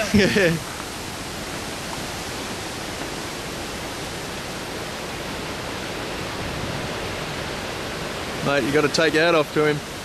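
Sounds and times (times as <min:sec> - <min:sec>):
strong wind blowing: 0:00.0 - 0:08.9.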